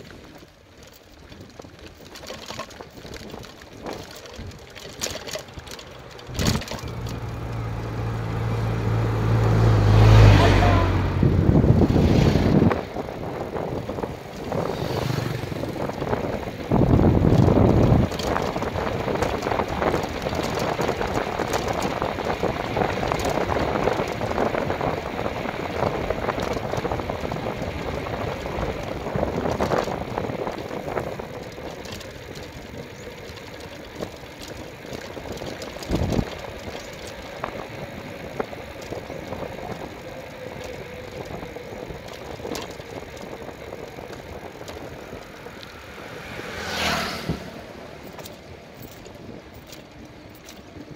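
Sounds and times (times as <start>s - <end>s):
rattle: 0.1s - 9.0s, 11.8s - 46.9s, 47.5s - 50.9s
small motorcycle engine running: 0.1s - 50.9s
wind buffeting microphone: 1.2s - 50.9s.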